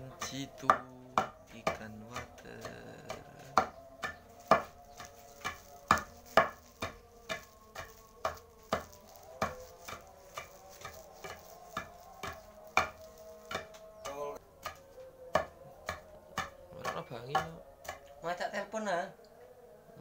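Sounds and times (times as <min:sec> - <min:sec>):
pestle pounding in stone mortar: 0:00.2 - 0:18.0.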